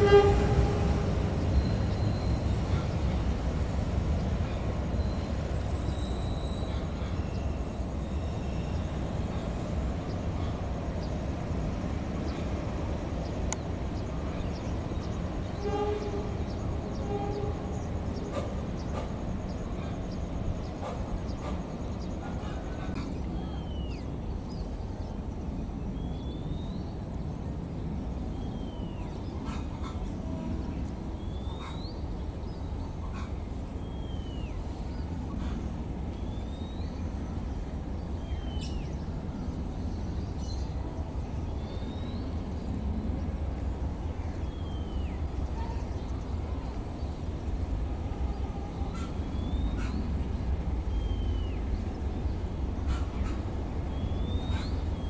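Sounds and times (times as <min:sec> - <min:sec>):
trains rumbling slowly: 0:00.0 - 0:55.0.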